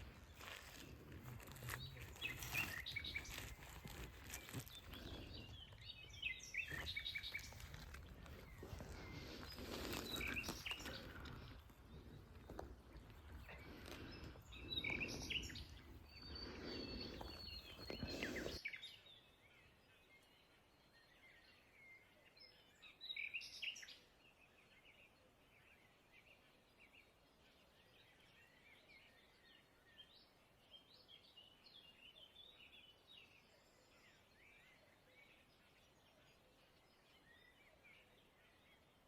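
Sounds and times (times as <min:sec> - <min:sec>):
small birds chirping and singing: 0:00.0 - 0:39.0.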